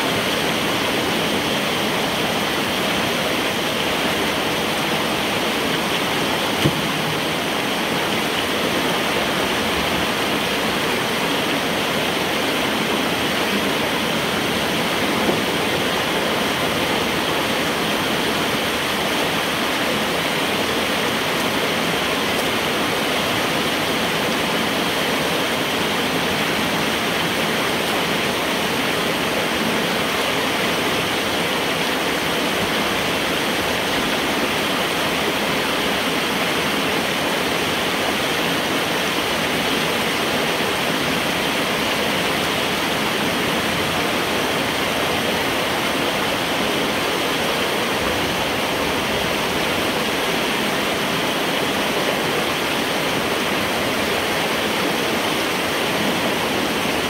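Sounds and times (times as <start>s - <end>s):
water rushing through metal pipe: 0.0s - 57.0s.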